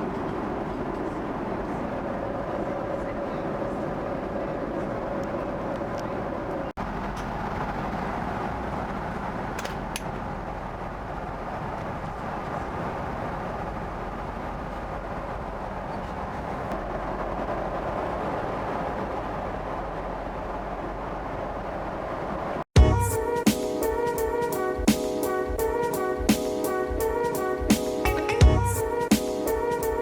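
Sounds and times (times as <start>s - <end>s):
airliner cabin noise: 0.0s - 30.0s.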